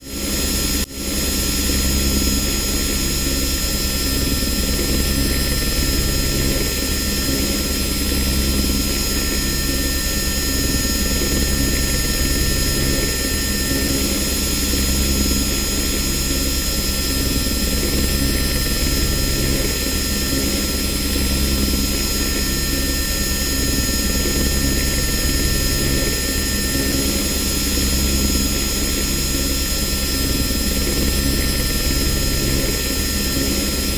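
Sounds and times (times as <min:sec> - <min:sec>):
helicopter rotor chopping: 0:01.8 - 0:33.9.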